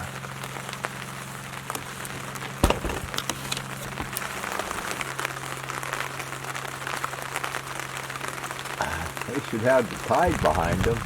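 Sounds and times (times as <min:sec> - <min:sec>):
boat engine drone: 0:00.0 - 0:11.0
raindrops ticking and dripping: 0:00.0 - 0:11.0.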